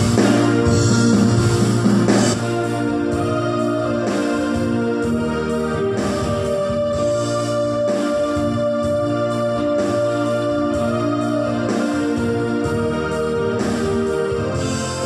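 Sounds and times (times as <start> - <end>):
electronic keyboard music: 0.0 - 15.0.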